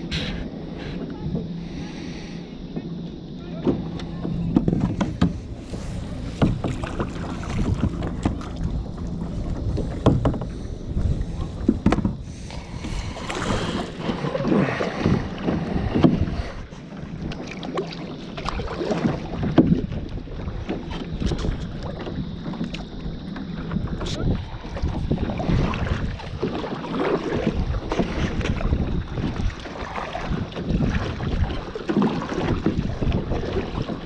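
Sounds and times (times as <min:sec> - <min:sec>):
paddle strokes splashing: 0:00.0 - 0:34.0
paddle knocking plastic hull: 0:02.7 - 0:34.0.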